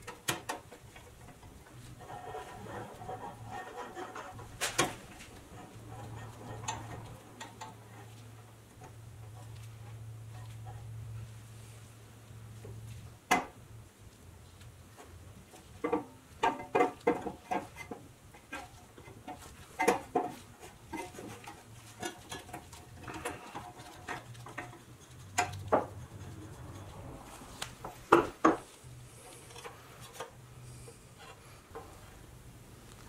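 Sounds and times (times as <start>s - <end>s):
low steady hum: 0.8s - 33.0s.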